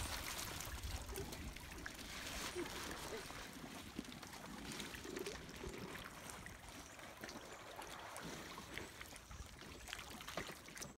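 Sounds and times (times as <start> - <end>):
faint seawater lapping: 0.0 - 11.0
small water splashes: 0.0 - 11.0.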